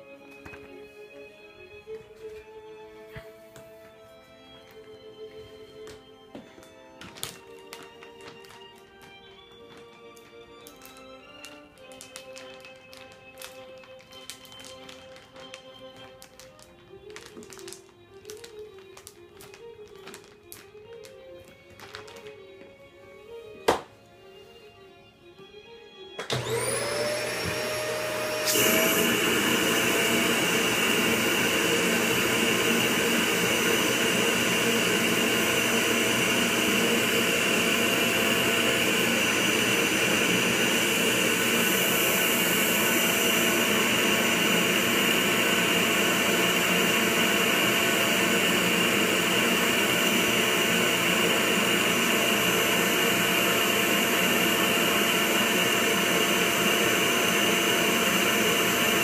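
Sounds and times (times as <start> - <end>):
vacuum cleaner motor whining: 0.0 - 22.8, 26.2 - 59.0.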